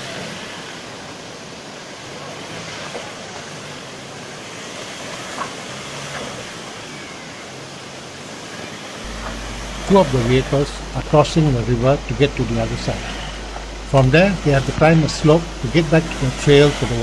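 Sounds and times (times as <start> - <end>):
flowing river water: 0.0 - 17.0
truck engine at low revs: 0.0 - 17.0.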